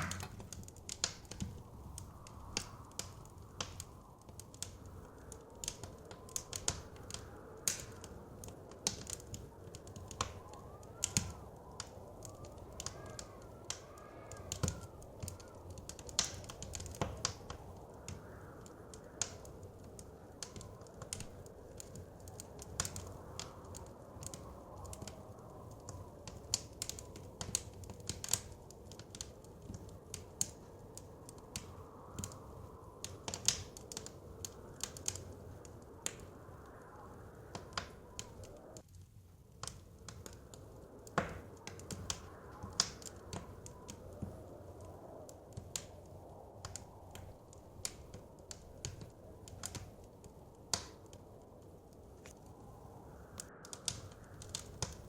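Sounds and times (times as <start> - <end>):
blizzard wind whistling: 0.0 - 55.0
wood fire crackling: 0.0 - 55.0.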